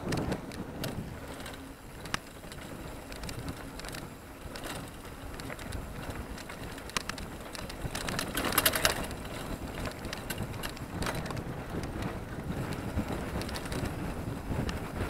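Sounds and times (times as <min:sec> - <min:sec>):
bike rattles and clicks: 0:00.0 - 0:15.0
bike tyres rumbling on dirt: 0:00.0 - 0:15.0
wind on microphone: 0:00.0 - 0:15.0.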